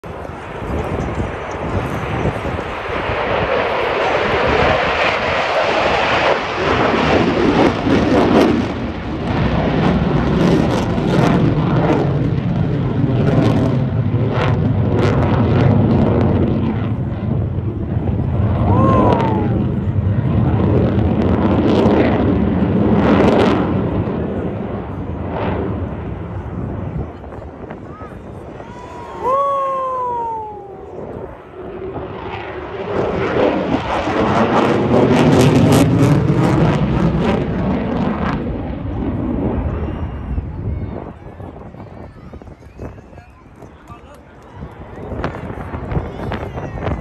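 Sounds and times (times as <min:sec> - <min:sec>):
jet engine roaring overhead: 0:00.0 - 0:47.0.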